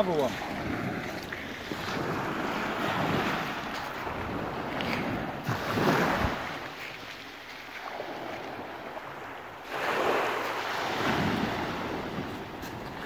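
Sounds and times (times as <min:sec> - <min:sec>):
wind buffeting microphone: 0:00.0 - 0:07.2, 0:07.8 - 0:13.0
waves washing over shingle: 0:00.0 - 0:13.0.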